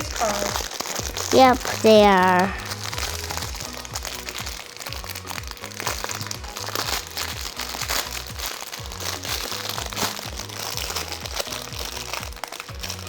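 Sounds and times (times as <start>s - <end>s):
background music with steady beat: 0.0s - 13.0s
packaging crinkling: 0.0s - 13.0s.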